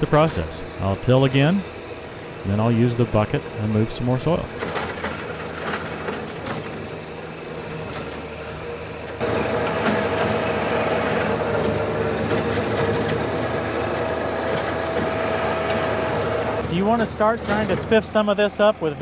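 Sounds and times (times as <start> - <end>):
rotary tiller churning soil: 0.0 - 19.0
tractor diesel engine running: 0.0 - 19.0.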